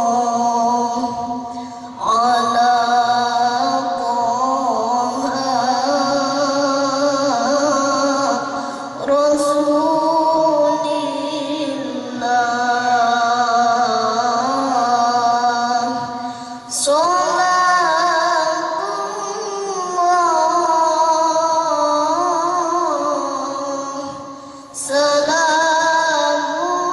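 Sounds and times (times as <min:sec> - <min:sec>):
boy reciting melodically over loudspeaker: 0:00.0 - 0:26.9.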